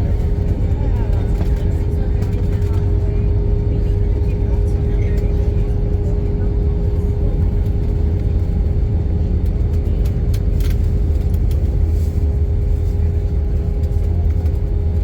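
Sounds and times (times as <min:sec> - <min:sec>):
jet engines idling rumble: 0:00.0 - 0:15.0.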